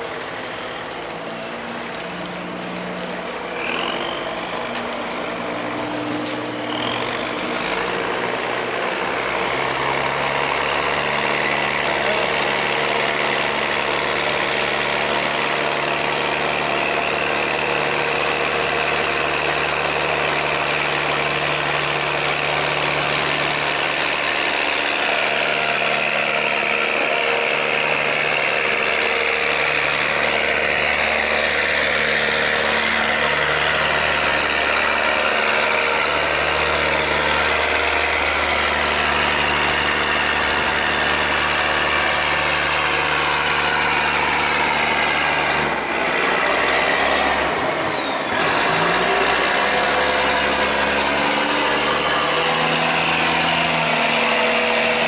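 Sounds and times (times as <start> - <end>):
boat diesel engine running: 0.0 - 55.0
high engine whine: 0.0 - 55.0.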